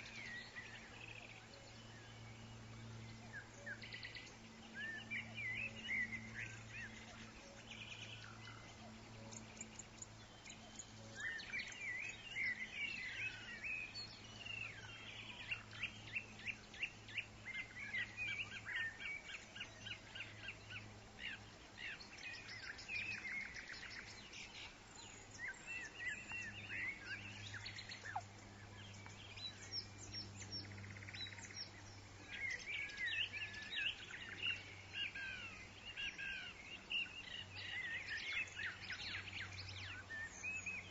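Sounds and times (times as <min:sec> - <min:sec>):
birds chirping and trilling: 0:00.0 - 0:40.9
steady low hum: 0:00.0 - 0:40.9.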